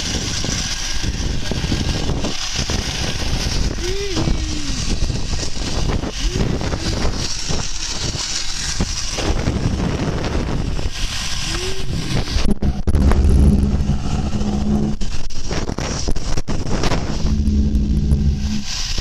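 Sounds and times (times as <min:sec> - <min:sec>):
steady low hum: 0:00.0 - 0:19.0
wind buffeting microphone: 0:00.0 - 0:19.0.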